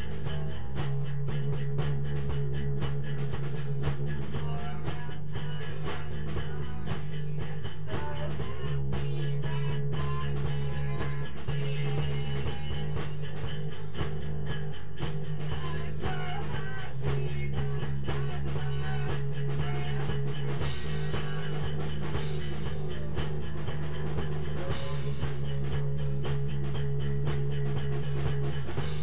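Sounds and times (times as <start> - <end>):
steady drum beat: 0.0 - 29.0.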